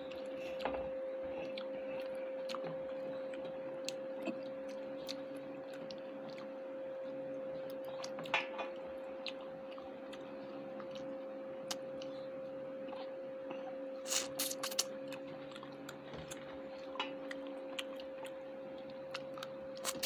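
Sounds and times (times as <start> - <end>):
chewing with wet clicks: 0.0 - 20.0
steady hum: 0.0 - 20.0.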